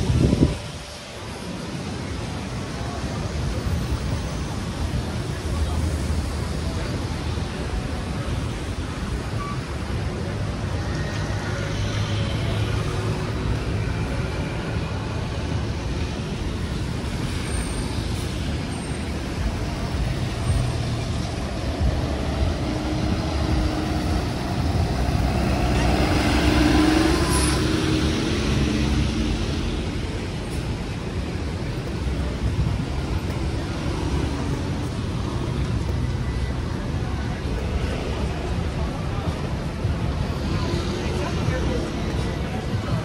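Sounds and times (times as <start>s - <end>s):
traffic rumble: 0.0s - 43.0s.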